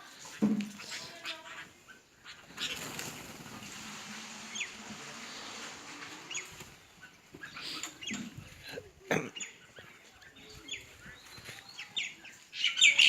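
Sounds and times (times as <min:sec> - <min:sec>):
steady rustling hiss: 0:00.0 - 0:12.7
birds chirping: 0:00.0 - 0:13.0.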